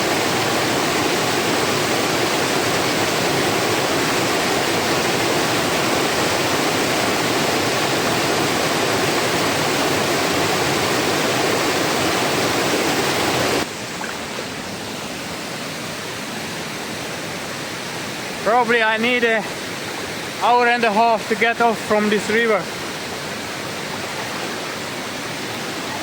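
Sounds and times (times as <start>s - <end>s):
river water rushing over rocks: 0.0s - 26.0s.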